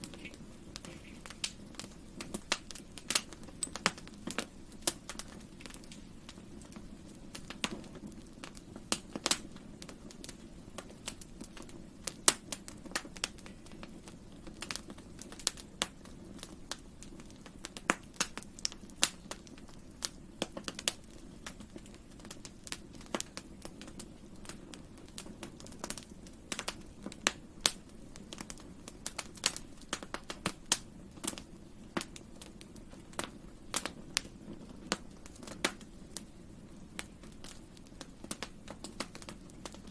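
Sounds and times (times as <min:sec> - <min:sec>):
campfire burning: 0:00.0 - 0:39.9
fire crackles and pops: 0:00.0 - 0:39.9.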